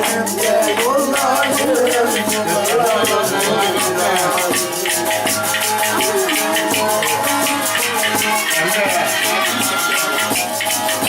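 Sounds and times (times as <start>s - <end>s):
fast shaker percussion beat: 0.0s - 11.0s
folk band playing winding melody: 0.0s - 11.0s.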